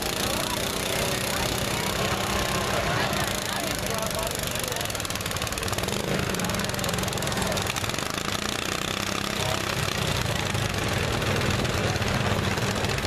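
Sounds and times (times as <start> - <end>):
lawn mower engine idling: 0.0 - 13.0.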